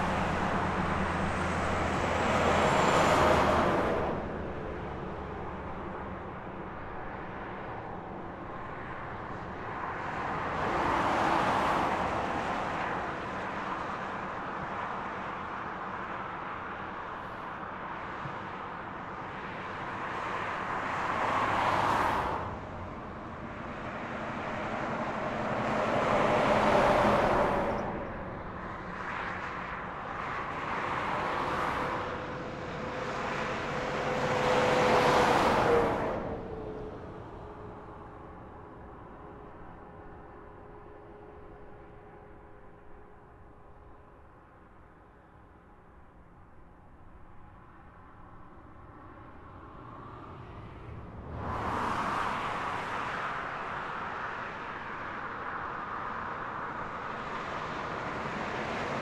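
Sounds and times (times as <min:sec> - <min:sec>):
low road hum: 0:00.0 - 0:59.0
vehicles passing on highway: 0:00.0 - 0:59.0.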